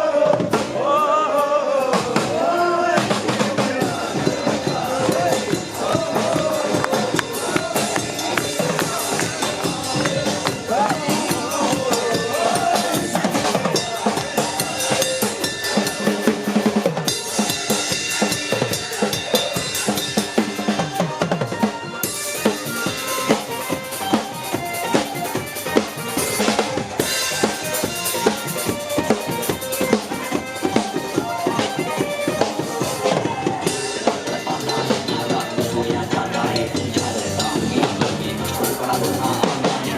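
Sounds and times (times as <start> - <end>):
drum kit beat: 0.0 - 39.9.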